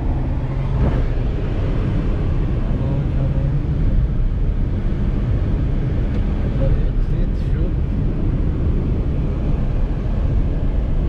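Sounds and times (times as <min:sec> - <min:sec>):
car interior road noise: 0:00.0 - 0:11.0.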